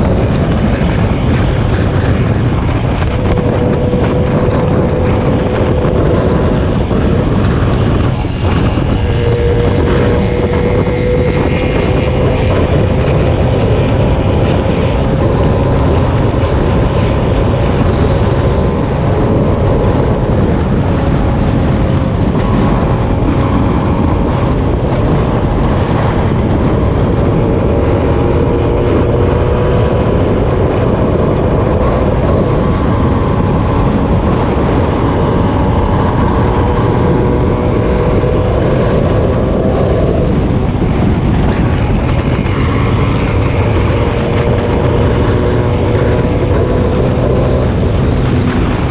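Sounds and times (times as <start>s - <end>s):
vehicle engine running: 0.0s - 48.9s
wind buffeting microphone: 0.0s - 48.9s.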